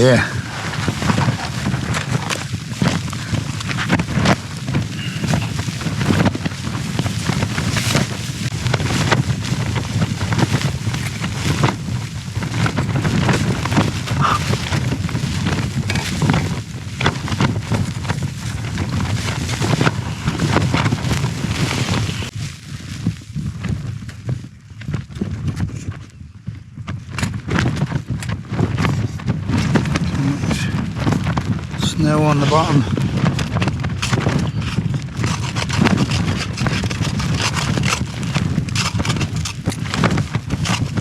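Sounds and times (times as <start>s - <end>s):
low rumble of wind: 0.0s - 41.0s
tent flysheet flapping: 0.0s - 41.0s.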